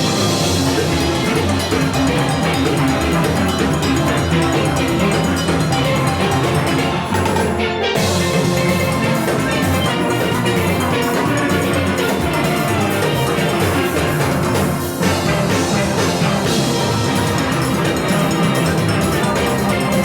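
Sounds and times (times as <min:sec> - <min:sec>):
drums: 0:00.0 - 0:20.0
steel pans playing: 0:00.0 - 0:20.0.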